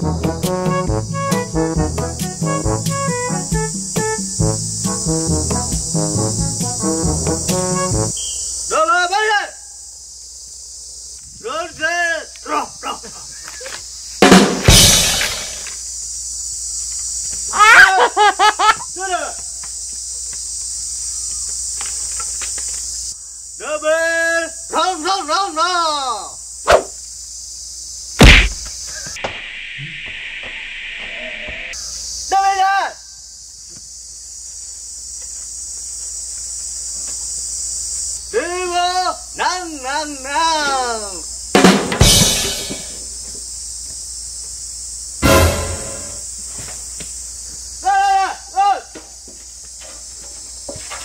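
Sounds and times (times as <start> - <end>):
insect chorus: 0.0 - 51.0.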